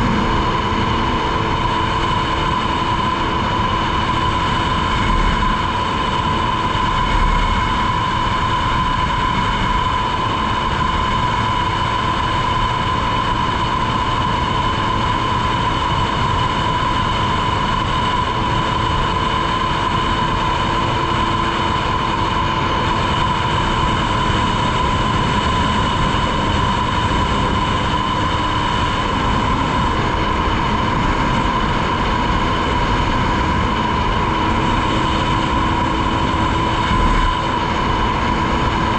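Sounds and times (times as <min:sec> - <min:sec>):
personal watercraft high whine: 0:00.0 - 0:38.9
rush of wind and water: 0:00.0 - 0:38.9.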